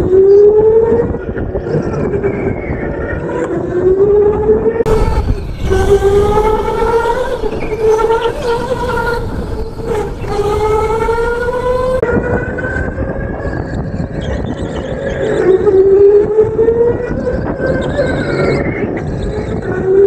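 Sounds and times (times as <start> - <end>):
electric go-kart motor whining: 0.0 - 20.0
kart rumbling on concrete: 0.0 - 20.0.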